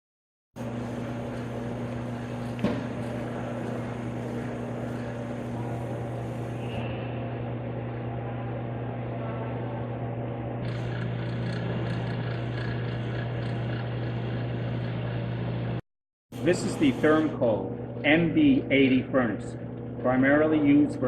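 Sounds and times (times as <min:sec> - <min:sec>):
low electrical hum: 0:00.6 - 0:15.8, 0:16.4 - 0:21.0.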